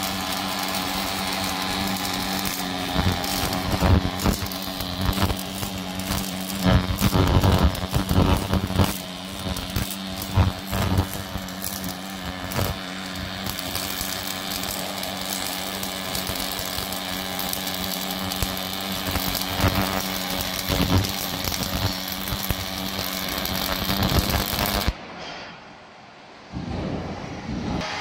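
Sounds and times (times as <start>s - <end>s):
welding arc crackling and hissing: 0.0s - 25.0s.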